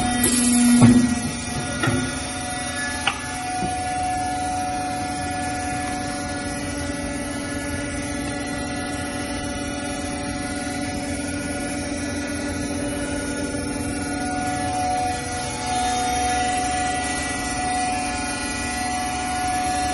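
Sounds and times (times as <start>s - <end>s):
hydraulic press motor humming: 0.0s - 19.9s.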